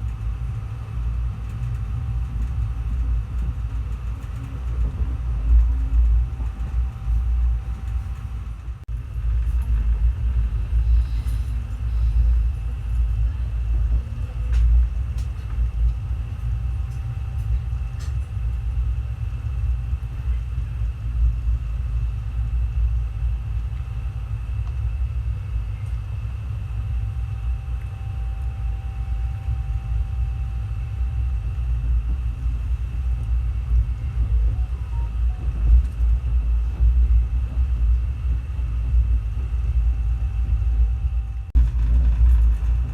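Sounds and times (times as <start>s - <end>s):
passenger train rumbling: 0.0s - 42.9s.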